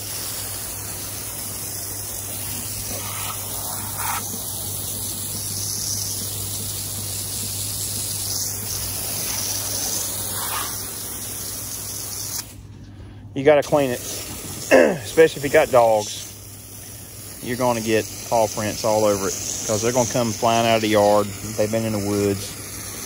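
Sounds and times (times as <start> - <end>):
hose spraying water: 0.0 - 12.7, 13.5 - 23.0.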